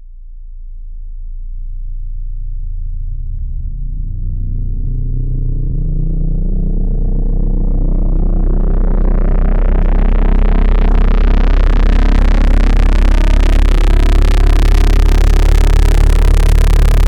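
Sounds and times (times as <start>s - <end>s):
synthesized electrical hum: 0.0s - 17.0s.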